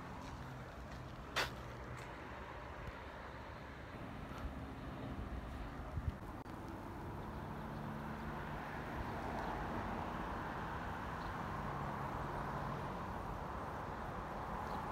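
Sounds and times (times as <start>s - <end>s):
distant traffic: 0.0s - 14.9s
low engine hum: 0.0s - 14.9s.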